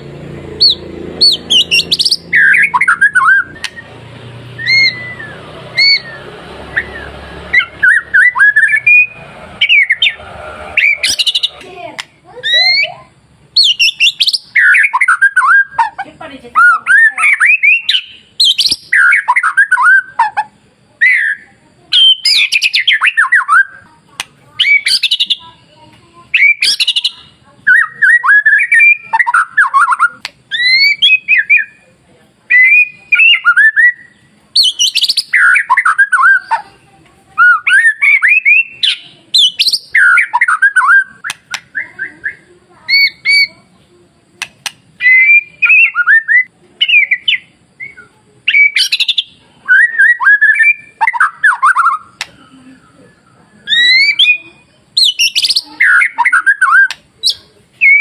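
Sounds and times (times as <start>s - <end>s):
bird singing whistles: 0.6s - 10.2s, 13.6s - 16.0s, 16.6s - 20.3s, 21.0s - 23.8s, 24.6s - 25.4s, 26.3s - 31.8s, 32.5s - 36.6s, 37.4s - 43.6s, 45.0s - 52.3s, 53.0s - 58.0s.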